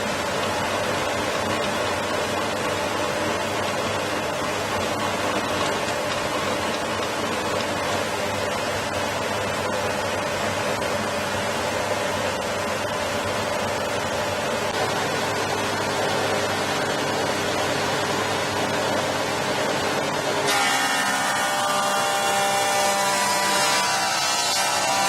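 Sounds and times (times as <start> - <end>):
board going through cutters: 0.0 - 11.6, 13.9 - 25.0
planer thicknesser running: 0.0 - 25.0.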